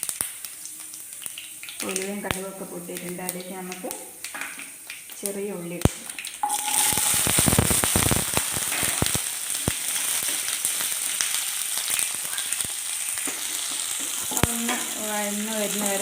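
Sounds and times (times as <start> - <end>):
food sizzling in hot oil: 0.0 - 16.0
sharp crackling pops: 0.0 - 16.0.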